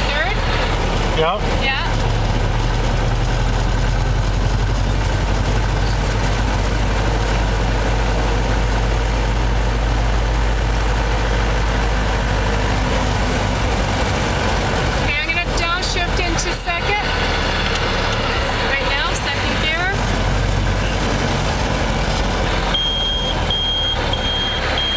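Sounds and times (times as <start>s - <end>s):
car engine drone: 0.0s - 24.9s
road noise inside car: 0.0s - 24.9s.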